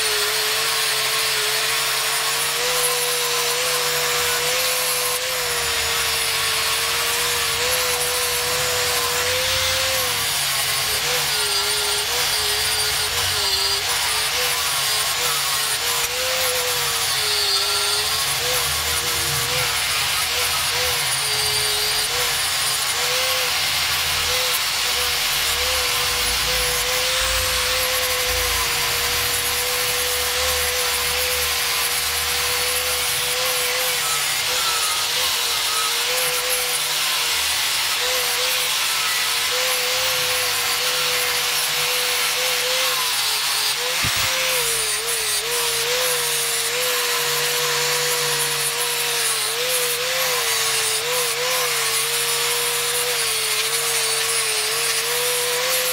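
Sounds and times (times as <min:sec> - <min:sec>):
angle grinder grinding steel: 0:00.0 - 0:55.9.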